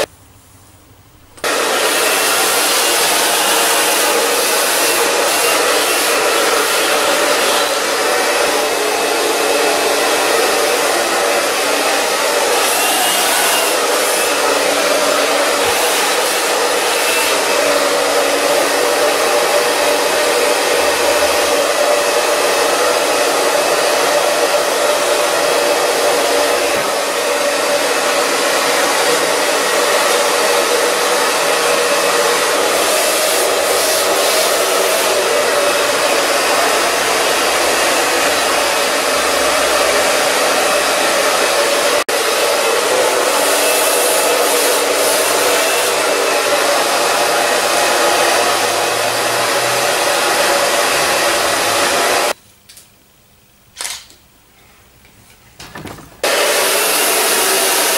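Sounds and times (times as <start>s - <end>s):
hair dryer blowing: 1.4s - 52.4s, 56.2s - 57.9s.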